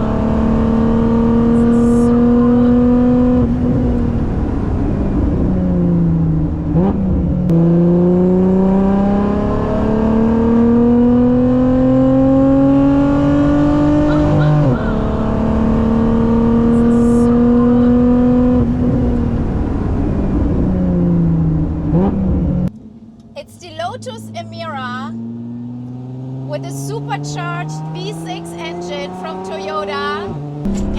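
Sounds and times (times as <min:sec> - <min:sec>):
car engine revving and accelerating: 0:00.0 - 0:30.9.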